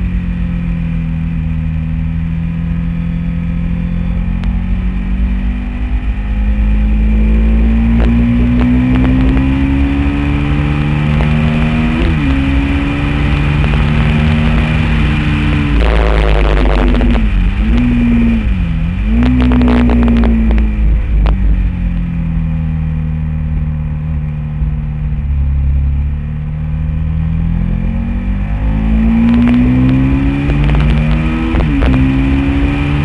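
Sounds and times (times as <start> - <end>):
motorcycle engine accelerating: 0.0 - 33.0
wind rumbling on microphone: 4.3 - 33.0.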